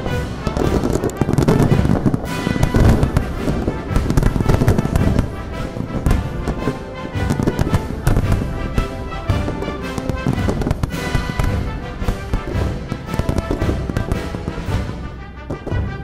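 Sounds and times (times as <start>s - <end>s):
fireworks bangs and crackling: 0.0s - 16.0s
music playing: 0.0s - 16.0s.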